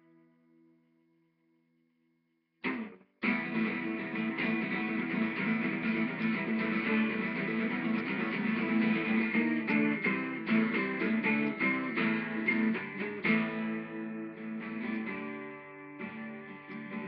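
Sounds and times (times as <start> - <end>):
acoustic guitar strumming: 2.6 - 17.0.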